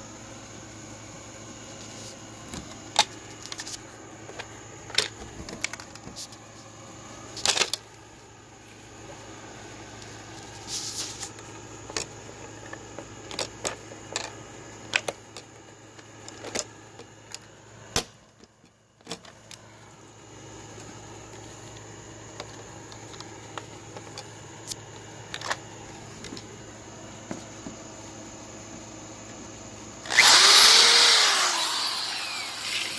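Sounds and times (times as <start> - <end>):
faint steady background: 0.0 - 32.9.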